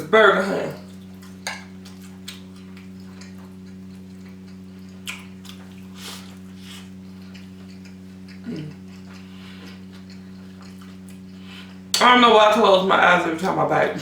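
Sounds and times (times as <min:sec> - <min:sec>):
low electrical hum: 0:00.0 - 0:14.0
wet chewing: 0:00.8 - 0:12.1.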